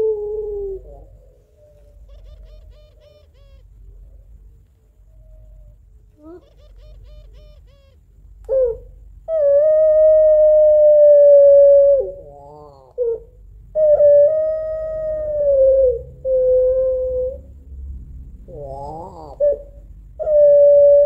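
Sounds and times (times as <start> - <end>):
dove long high-pitched cry: 0.0 - 4.3, 5.0 - 17.6, 18.4 - 21.0
dove cooing: 0.0 - 17.5, 18.5 - 21.0.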